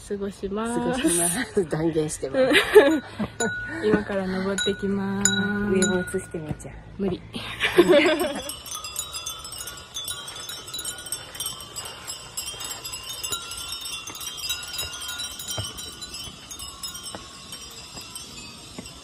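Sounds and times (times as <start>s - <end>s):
wind chimes tinkling: 0.8s - 19.0s.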